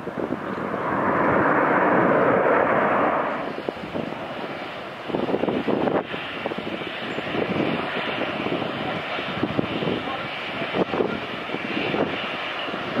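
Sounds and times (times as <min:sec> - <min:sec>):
jet airliner rush on runway: 0:00.0 - 0:13.0
jet on final approach: 0:00.0 - 0:13.0.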